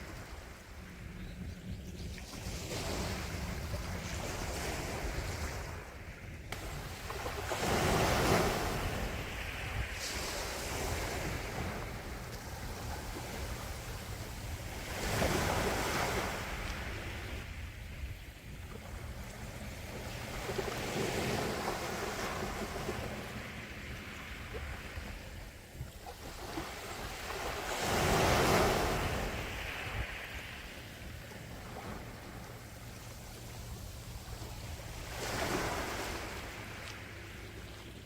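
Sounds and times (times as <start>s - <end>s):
waves washing on shore: 2.3s - 38.0s.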